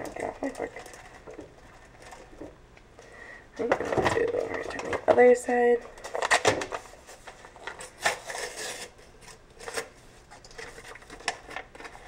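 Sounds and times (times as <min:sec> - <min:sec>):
packet rustling: 0:00.0 - 0:02.5, 0:03.6 - 0:05.2, 0:05.8 - 0:12.0.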